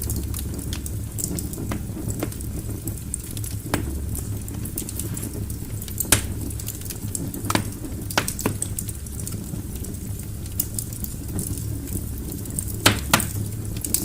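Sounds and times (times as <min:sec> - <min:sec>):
logs crackling in a fireplace: 0:00.0 - 0:14.0.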